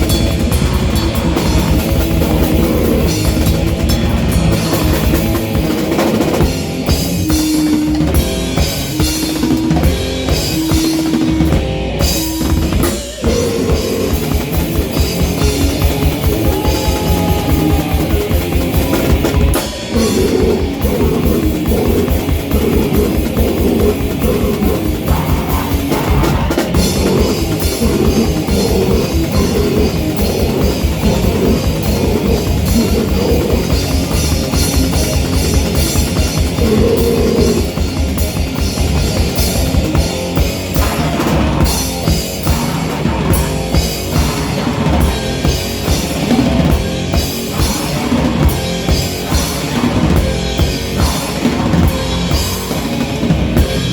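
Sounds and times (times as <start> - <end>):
live rock band playing: 0.0 - 53.9
rapid kick drum: 0.0 - 53.9.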